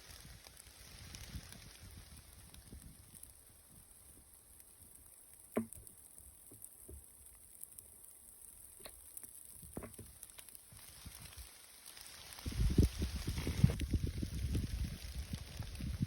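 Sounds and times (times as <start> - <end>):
raindrops dripping: 0.0 - 16.0.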